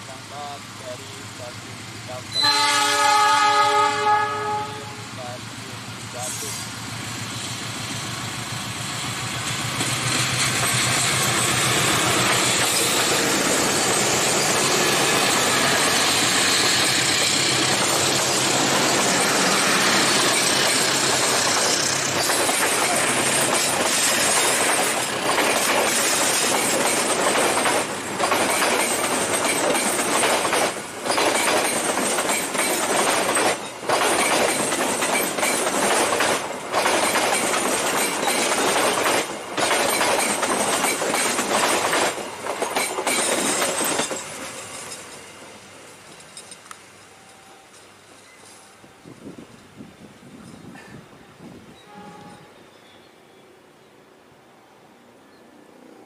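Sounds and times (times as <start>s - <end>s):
train wheels rumbling and clattering: 5.0s - 51.0s.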